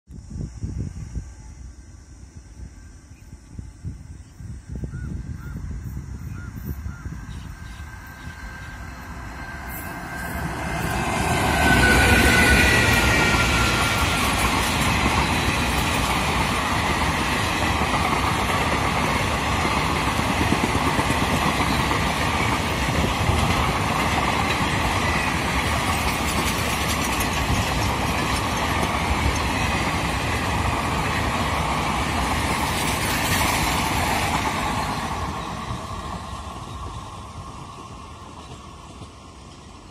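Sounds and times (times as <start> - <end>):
train wheels rumbling on rails: 3.4 - 39.9.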